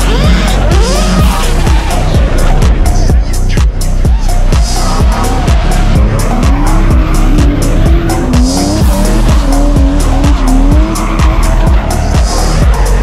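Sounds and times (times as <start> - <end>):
car engine revving: 0.0 - 13.0
music with steady beat: 0.0 - 13.0.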